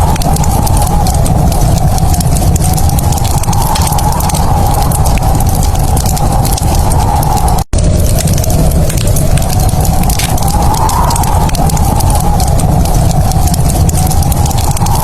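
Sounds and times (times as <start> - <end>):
low rumble: 0.0 - 15.0
wood fire crackling: 0.0 - 15.0.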